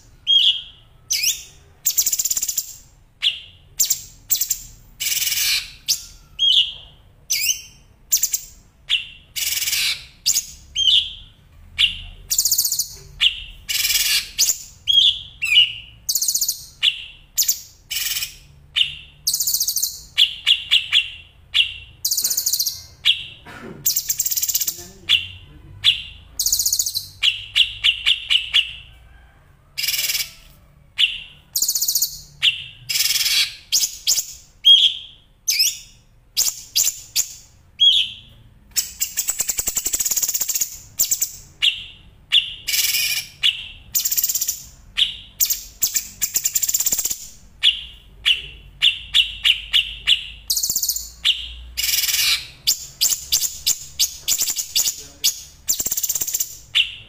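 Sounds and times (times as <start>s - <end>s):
songbird chirps and trills: 0.0s - 57.0s.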